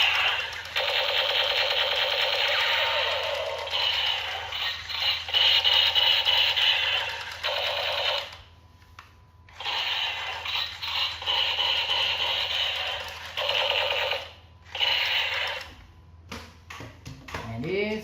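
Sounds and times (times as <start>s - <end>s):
toy gun electronic sound effects: 0.0s - 8.4s, 9.5s - 15.8s.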